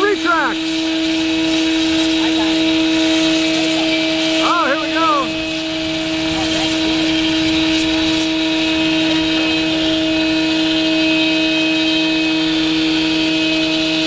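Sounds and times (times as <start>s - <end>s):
electric motor and propeller whine: 0.0s - 14.0s.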